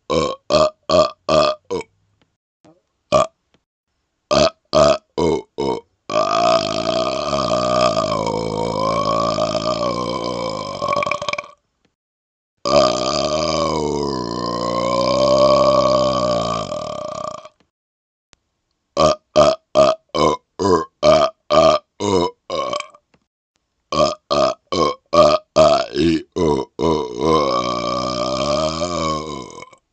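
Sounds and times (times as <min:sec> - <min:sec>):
man burping: 0:00.0 - 0:01.9, 0:03.1 - 0:03.4, 0:04.3 - 0:11.6, 0:12.6 - 0:17.6, 0:19.0 - 0:23.0, 0:23.9 - 0:29.9.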